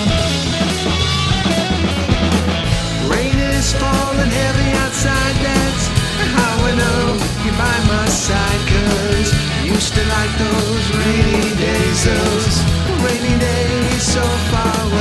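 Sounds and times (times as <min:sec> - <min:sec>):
bass guitar: 0:00.0 - 0:15.0
distorted electric guitar: 0:00.0 - 0:15.0
drum kit with cymbals: 0:00.0 - 0:15.0.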